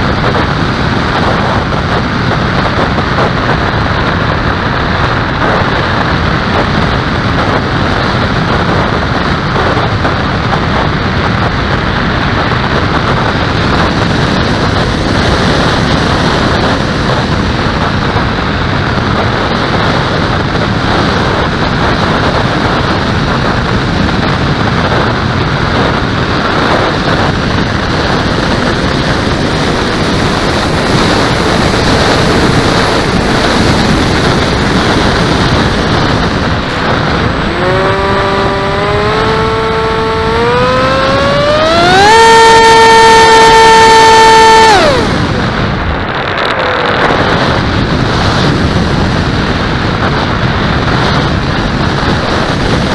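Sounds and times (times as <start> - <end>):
airflow over microphone: 0.0 - 52.9
faint engine whine: 0.0 - 52.9.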